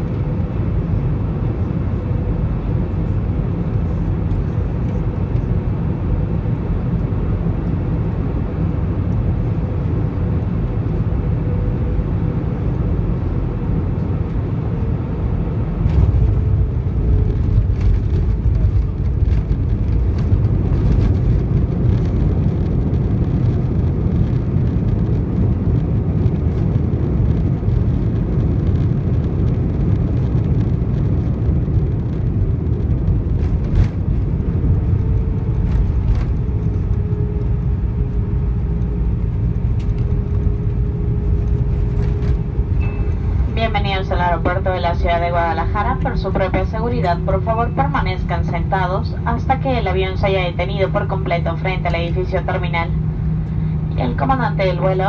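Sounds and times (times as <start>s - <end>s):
low rumble of engines and wheels: 0.0s - 55.0s
faint steady whine: 9.9s - 55.0s.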